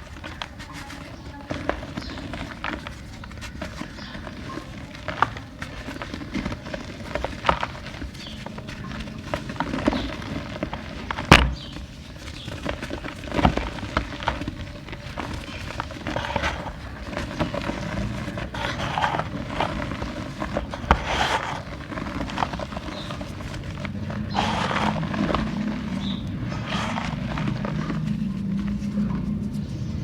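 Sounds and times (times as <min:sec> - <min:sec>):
clay pots crushed by hand: 0:00.0 - 0:28.8.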